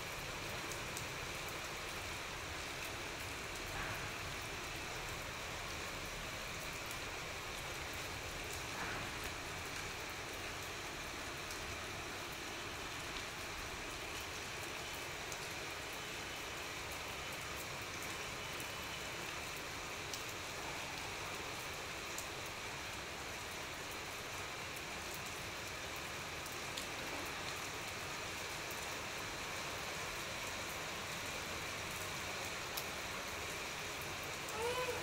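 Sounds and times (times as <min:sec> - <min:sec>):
rain on tiles: 0:00.0 - 0:35.0.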